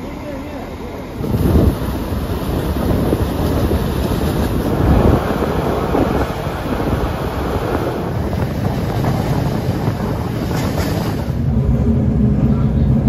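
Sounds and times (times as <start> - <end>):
train rumbling: 0.0 - 13.0
wind rushing over microphone: 1.2 - 13.0.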